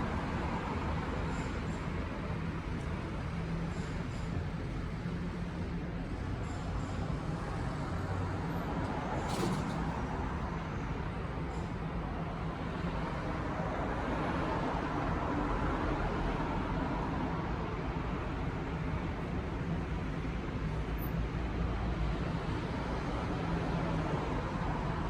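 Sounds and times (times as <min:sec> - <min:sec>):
road traffic rumble and hiss: 0:00.0 - 0:25.0.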